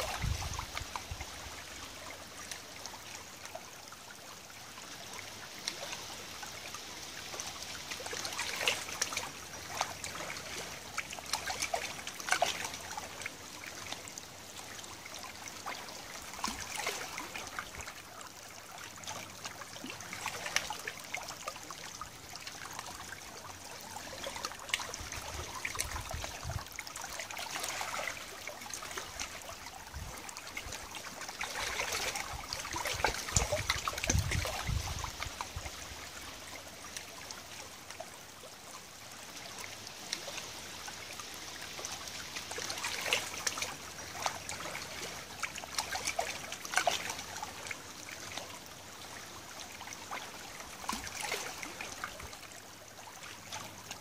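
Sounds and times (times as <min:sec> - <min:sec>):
water trickling among stones: 0:00.0 - 0:54.0
small splashes: 0:05.1 - 0:38.0, 0:39.4 - 0:54.0.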